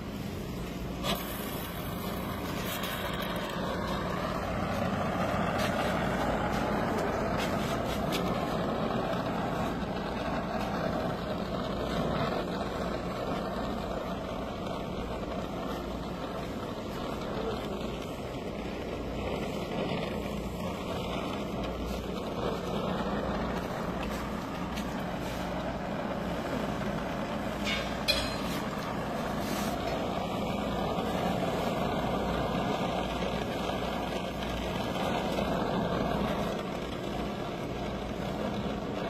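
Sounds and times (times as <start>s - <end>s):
low steady hum: 0.0s - 39.0s
torch flame hissing: 0.0s - 39.0s.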